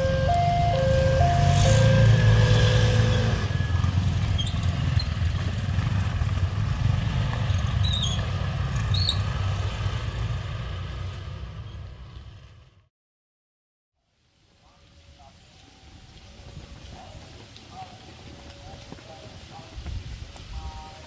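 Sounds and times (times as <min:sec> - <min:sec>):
motorcycle engines: 0:00.0 - 0:12.9, 0:14.6 - 0:21.0
traffic rumble: 0:00.0 - 0:12.9, 0:14.3 - 0:21.0.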